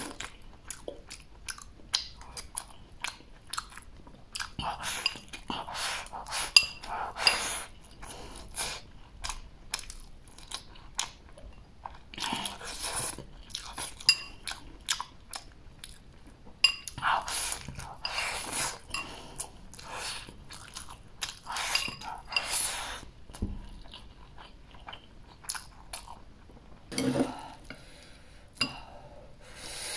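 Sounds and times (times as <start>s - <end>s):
chewing and crunching food: 0.0s - 26.7s.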